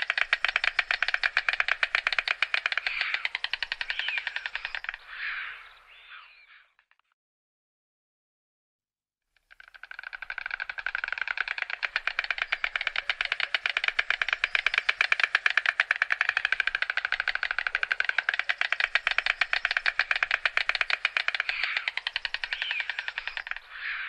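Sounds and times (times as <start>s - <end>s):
stork clattering its bill: 0.0s - 5.2s, 9.4s - 24.0s.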